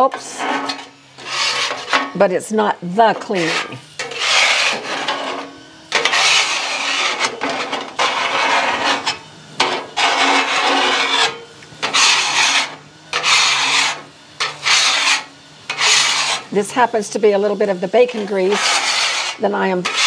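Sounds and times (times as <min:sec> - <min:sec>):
metal scraper scraping griddle: 0:00.0 - 0:02.3, 0:03.0 - 0:20.0.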